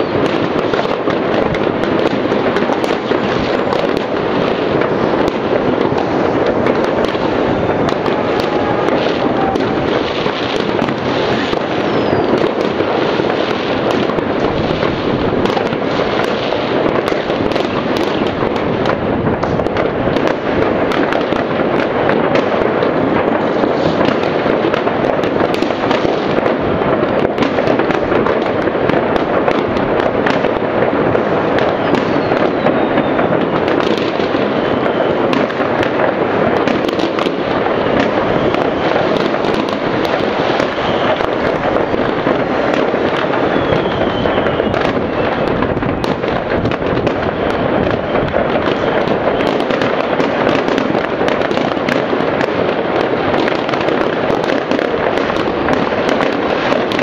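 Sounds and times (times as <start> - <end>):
distant fireworks bangs and crackles: 0.0 - 57.0
falling firework whistle: 0.0 - 57.0.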